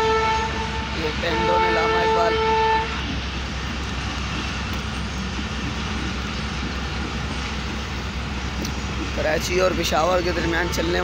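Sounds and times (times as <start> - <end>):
diesel locomotive engine rumble: 0.0 - 11.0
moving train rushing noise: 0.0 - 11.0.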